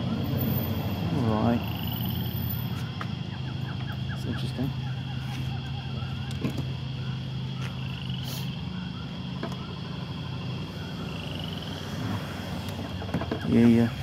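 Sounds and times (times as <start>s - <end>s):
steady low hum: 0.0s - 14.0s
faint bird chirps: 1.3s - 14.0s.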